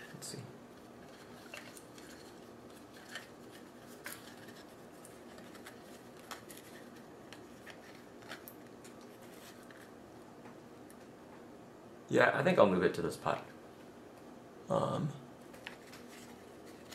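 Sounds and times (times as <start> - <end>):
faint room hum: 0.0 - 16.9.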